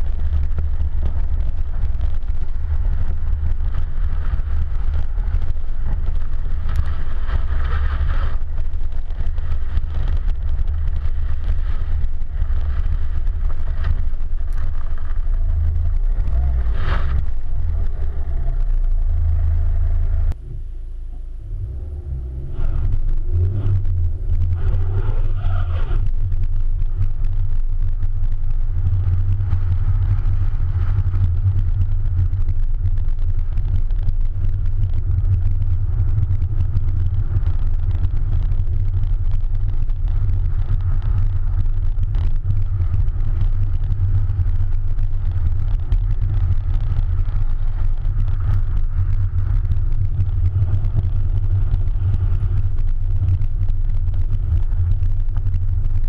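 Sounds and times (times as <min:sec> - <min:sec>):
car engine accelerating: 0:00.0 - 0:55.9
tyre and wind rumble: 0:00.0 - 0:56.0.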